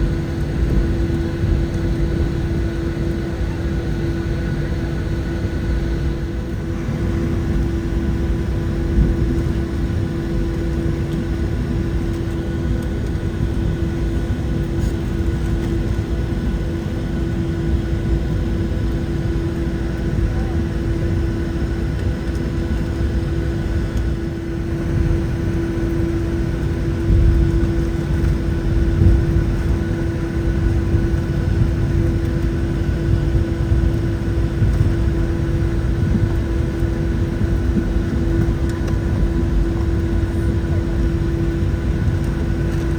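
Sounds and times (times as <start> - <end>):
jet engines droning in cabin: 0.0 - 42.9.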